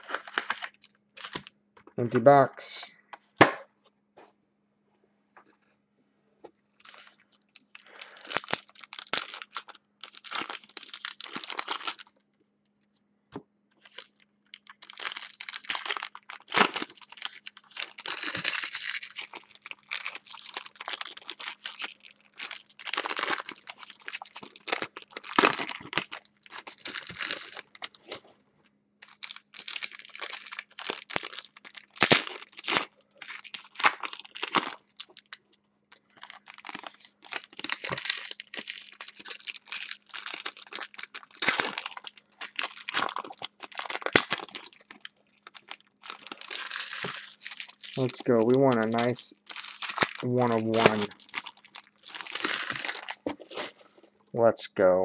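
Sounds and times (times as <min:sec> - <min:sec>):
foil packs torn open by hand: 0:00.0 - 0:01.5, 0:06.8 - 0:12.1, 0:13.8 - 0:28.2, 0:29.0 - 0:35.4, 0:36.0 - 0:53.8
foil wrappers crinkling: 0:00.0 - 0:01.5, 0:06.8 - 0:12.1, 0:13.8 - 0:28.2, 0:29.0 - 0:54.1.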